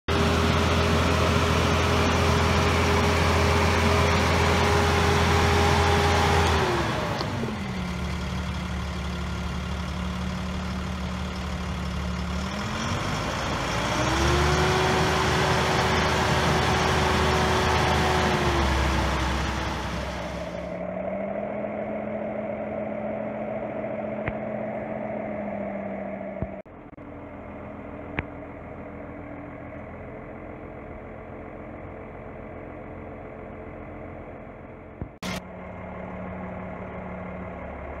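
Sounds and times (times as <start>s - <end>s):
tractor diesel engine revving: 0.1s - 38.0s.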